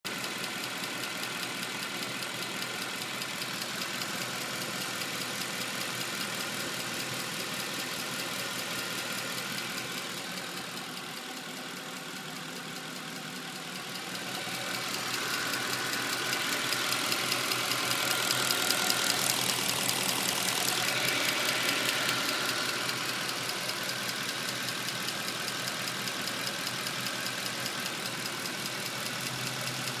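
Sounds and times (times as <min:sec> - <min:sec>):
car engine idling: 0:00.1 - 0:30.0
fast even engine ticking: 0:00.1 - 0:30.0.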